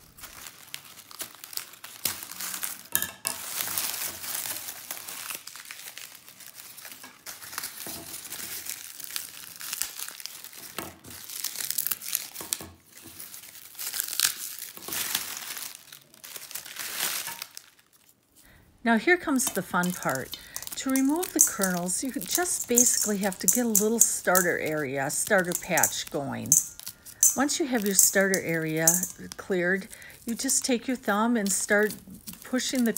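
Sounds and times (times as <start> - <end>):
popcorn husks crackling and tearing: 0.0 - 32.9.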